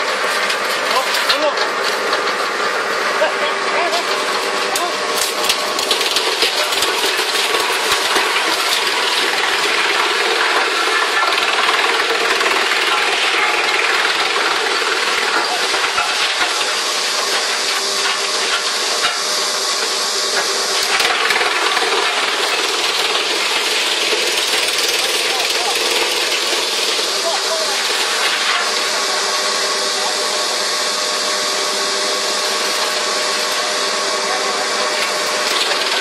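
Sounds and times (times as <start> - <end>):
wood chipper chipping wood: 0.0 - 36.0.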